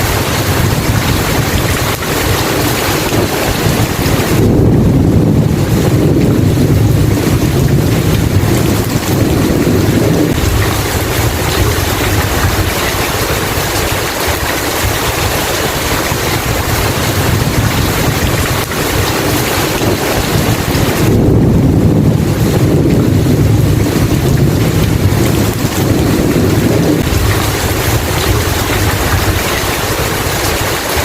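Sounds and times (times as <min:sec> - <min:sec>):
heavy rain hissing: 0:00.0 - 0:31.0
thunder rumbling: 0:00.0 - 0:31.0.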